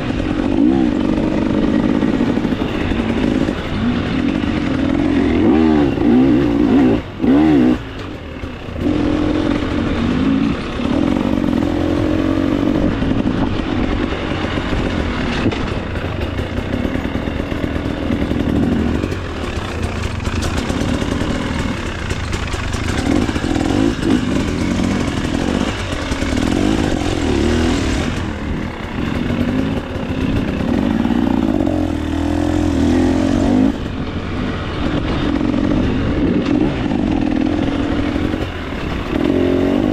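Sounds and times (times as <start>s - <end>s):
chassis clatter: 0.0s - 39.9s
dirt bike engine revving: 0.0s - 39.9s.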